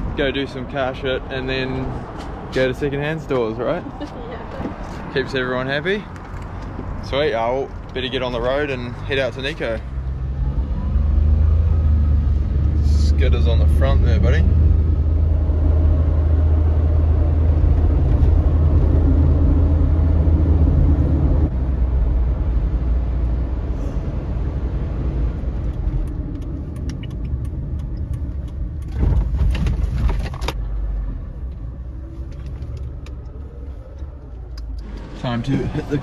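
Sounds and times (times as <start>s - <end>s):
engine and road noise in a van: 0.0s - 36.0s.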